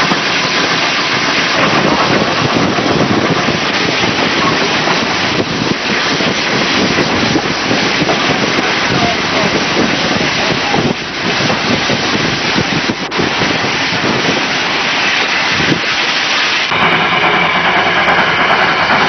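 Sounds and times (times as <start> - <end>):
steam train running: 0.0 - 19.0
wind buffeting microphone: 0.0 - 19.0.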